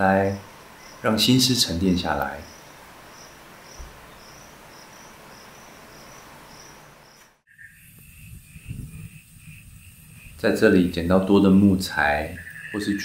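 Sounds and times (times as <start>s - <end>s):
steady outdoor hiss: 0.0s - 13.0s
insects chirping in pulses: 0.1s - 13.0s
lower-pitched insect chirp: 0.2s - 13.0s.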